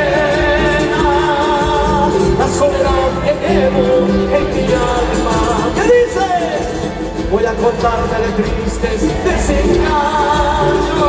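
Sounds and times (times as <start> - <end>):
folk band over sound system: 0.0 - 11.0.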